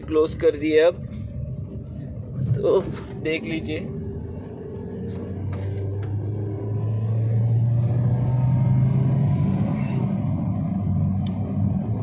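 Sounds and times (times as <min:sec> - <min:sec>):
car engine accelerating: 0:01.0 - 0:12.0.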